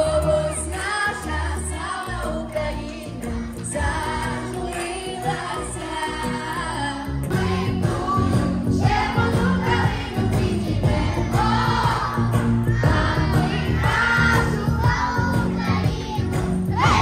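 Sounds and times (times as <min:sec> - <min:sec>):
children singing: 0:00.0 - 0:17.0
music with steady beat: 0:00.0 - 0:17.0.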